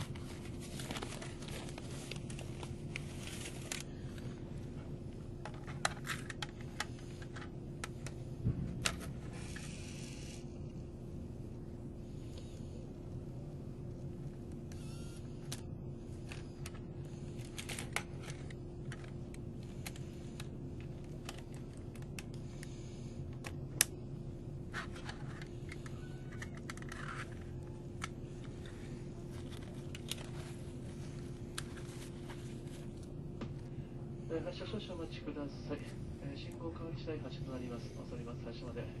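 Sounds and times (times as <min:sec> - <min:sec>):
electric train equipment hum: 0:00.0 - 0:39.0.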